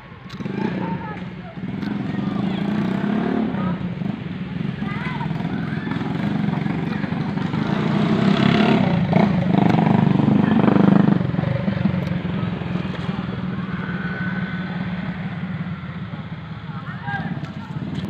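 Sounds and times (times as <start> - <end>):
motorcycle engine passing: 0.4 - 18.0.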